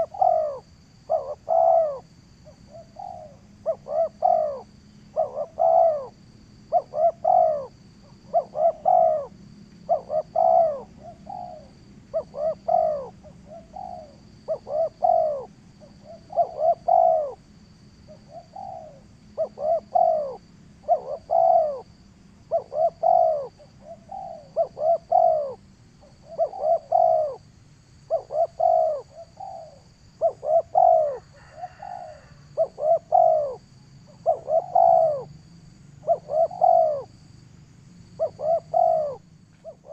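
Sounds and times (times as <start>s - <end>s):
bird cooing: 0.0s - 17.5s, 18.1s - 35.4s, 36.0s - 37.3s, 38.1s - 39.9s.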